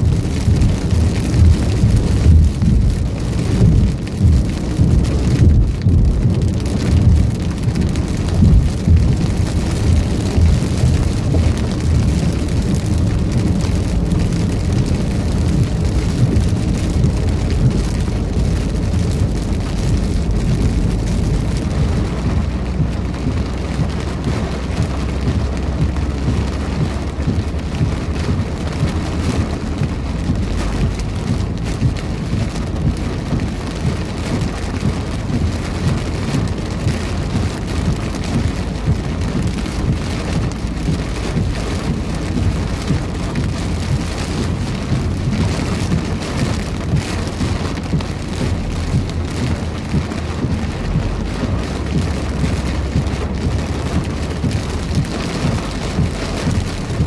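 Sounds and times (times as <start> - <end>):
heavy rain pouring: 0.0 - 57.0
low thunder rumble: 0.0 - 57.0.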